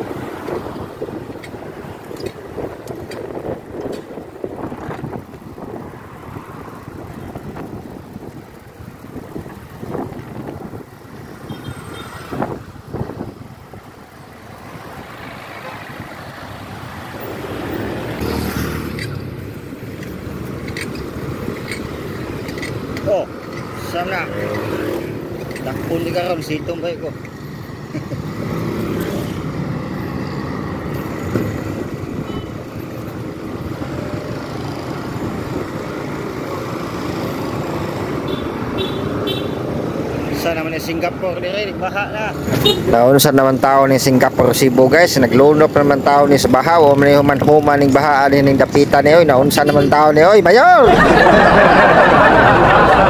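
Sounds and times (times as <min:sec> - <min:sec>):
cars and trucks driving by: 0:00.0 - 0:53.0
road and wind noise: 0:00.0 - 0:53.0
vehicle engine: 0:00.0 - 0:53.0.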